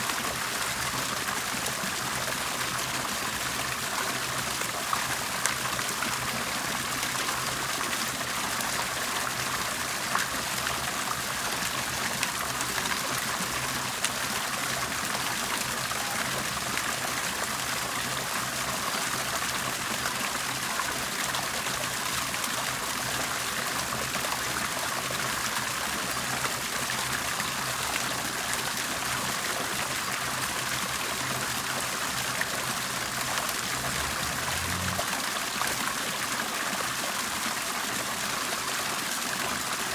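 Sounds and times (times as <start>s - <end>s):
water bubbling and trickling: 0.3s - 38.3s.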